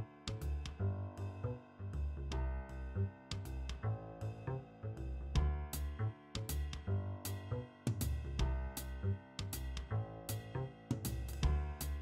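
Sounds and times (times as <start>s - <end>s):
bass notes: 0.0s - 12.0s.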